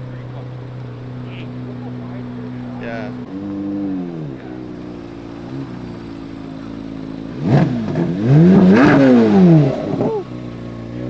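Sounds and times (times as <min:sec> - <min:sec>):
sports car engine revving: 0:00.0 - 0:11.0.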